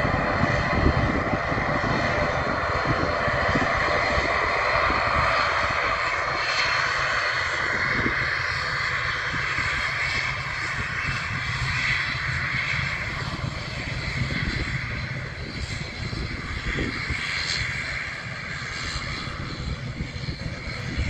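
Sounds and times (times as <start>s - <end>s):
turboprop plane taxiing drone: 0.0s - 21.0s.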